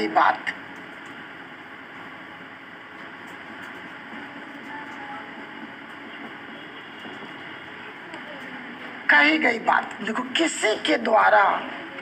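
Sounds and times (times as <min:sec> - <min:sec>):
background hiss and rumble: 0:00.0 - 0:12.0.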